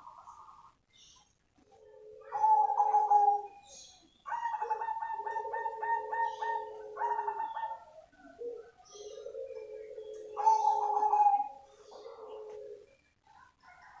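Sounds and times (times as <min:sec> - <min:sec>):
dove cooing: 0:00.0 - 0:00.8, 0:01.6 - 0:14.0.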